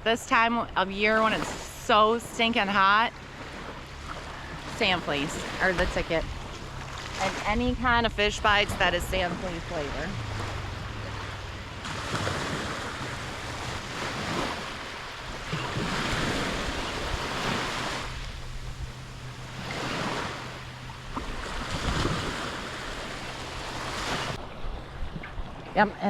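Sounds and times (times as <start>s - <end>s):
wind buffeting microphone: 0.0s - 26.0s
surf breaking on beach: 1.0s - 24.9s.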